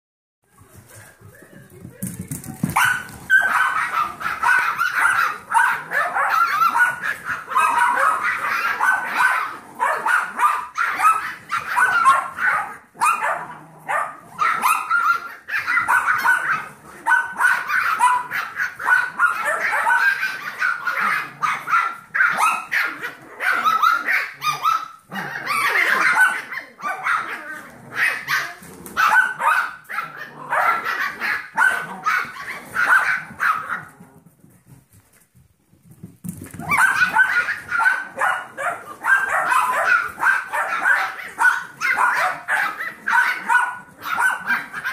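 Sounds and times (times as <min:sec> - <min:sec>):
puppies yipping and barking: 0:02.6 - 0:33.9, 0:36.5 - 0:44.9.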